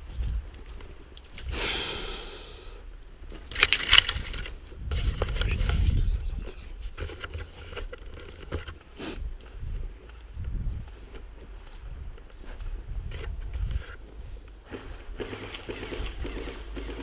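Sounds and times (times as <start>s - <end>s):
rustling and scraping: 3.2s - 17.0s.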